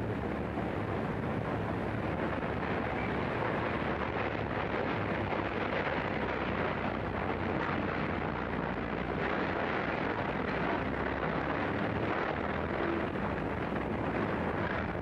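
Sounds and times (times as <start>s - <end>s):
street background noise: 0.0s - 15.0s.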